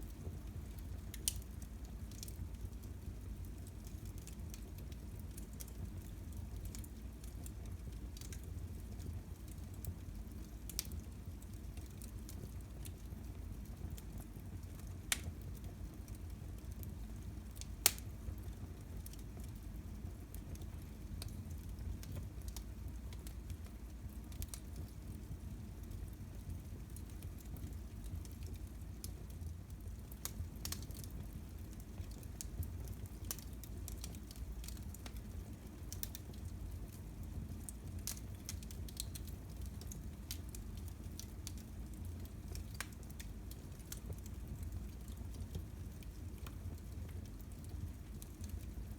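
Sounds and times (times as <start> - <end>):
fire burning in fireplace: 0.0 - 48.9.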